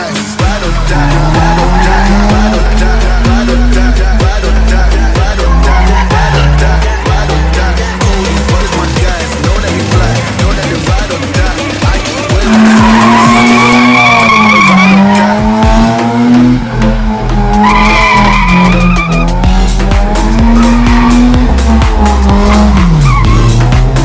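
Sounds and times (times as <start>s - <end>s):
car engine at high revs: 0.4s - 24.0s
tyres squealing: 0.6s - 15.6s, 17.0s - 19.8s, 20.4s - 24.0s.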